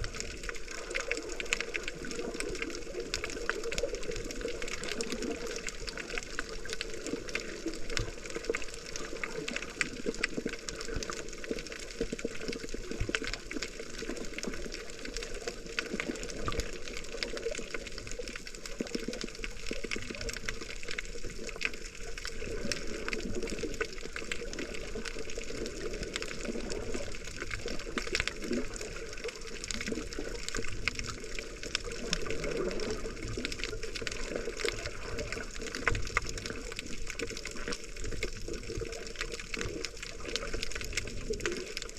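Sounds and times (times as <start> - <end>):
muffled underwater water rush: 0.0 - 41.9.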